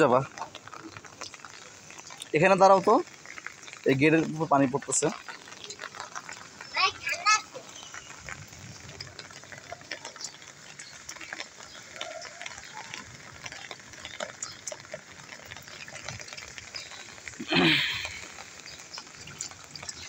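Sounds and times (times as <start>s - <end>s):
drips and splashes: 0.0s - 20.0s
heavy rain on concrete roof: 0.0s - 20.0s.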